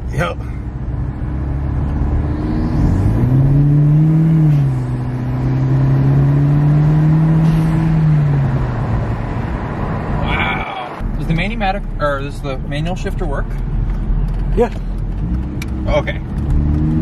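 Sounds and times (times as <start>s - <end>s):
car engine accelerating: 0.1s - 17.0s.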